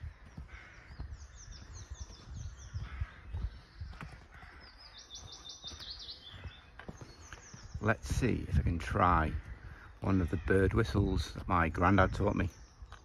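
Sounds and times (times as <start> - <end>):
footsteps on dirt path: 0.0 - 13.0
songbirds singing: 0.0 - 13.0.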